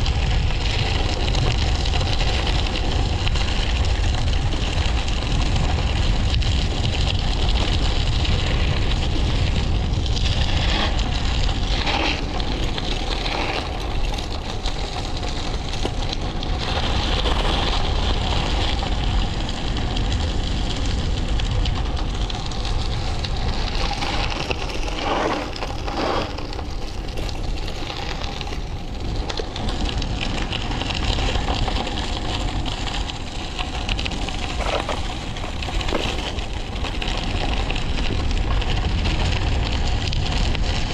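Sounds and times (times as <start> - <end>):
bike tyres crunching on trail: 0.0 - 40.9
wind on microphone: 0.0 - 40.9.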